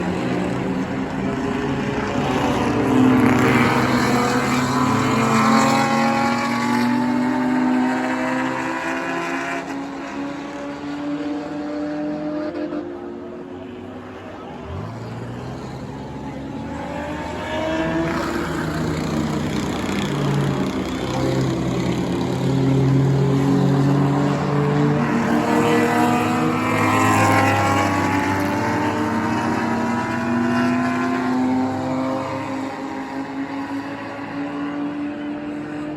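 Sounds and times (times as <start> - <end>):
race car engines passing: 0.0 - 35.9.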